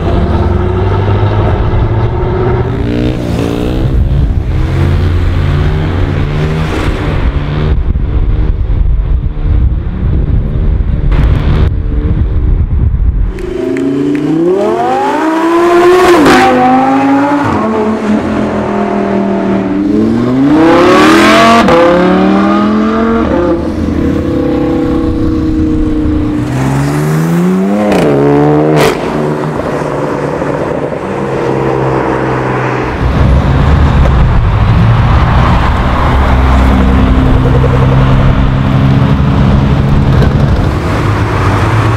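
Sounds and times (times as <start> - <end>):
sports car engines accelerating: 0.0 - 41.9.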